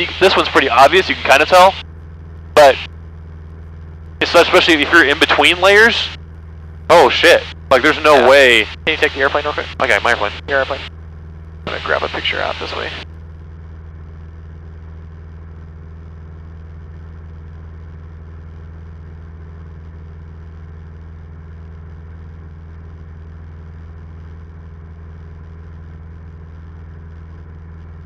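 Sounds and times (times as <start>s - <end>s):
airplane engine and propeller drone: 0.0s - 28.0s.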